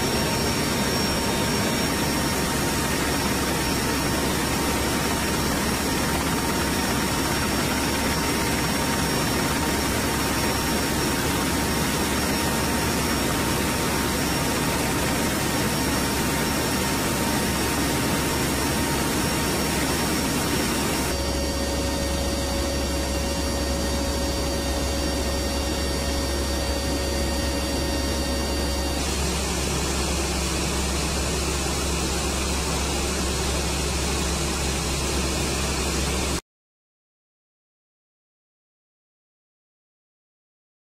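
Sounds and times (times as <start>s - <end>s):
faint steady whines: 0.0s - 36.4s
turboprop engines droning: 0.0s - 36.4s.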